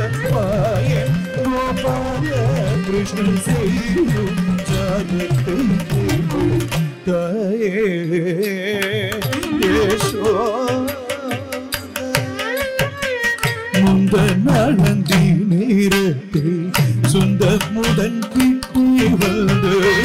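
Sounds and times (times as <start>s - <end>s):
drum strokes: 0.0s - 7.1s, 8.9s - 20.0s.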